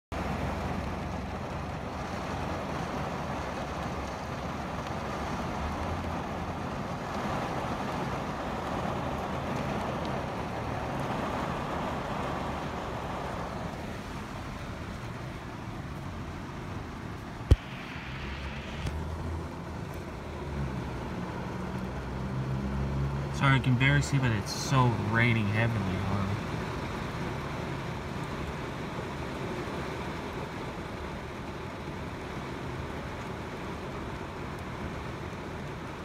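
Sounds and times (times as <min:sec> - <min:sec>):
heavy rain falling: 0:00.1 - 0:36.0.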